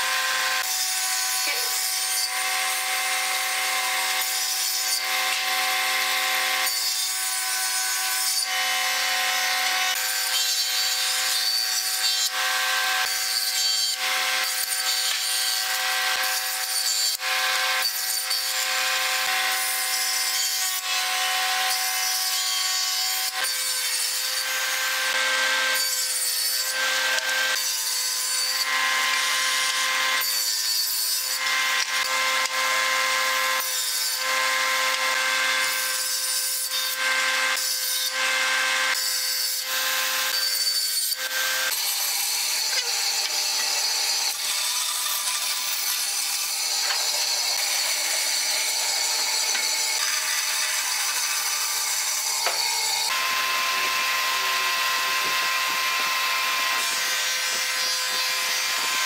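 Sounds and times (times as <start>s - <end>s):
saw blade cutting wood: 0.0s - 59.0s
table saw whine: 0.0s - 59.0s.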